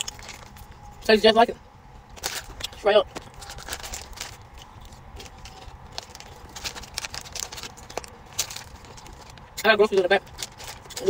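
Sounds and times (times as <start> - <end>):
foil bag crinkling: 0.0 - 0.8, 2.2 - 11.0.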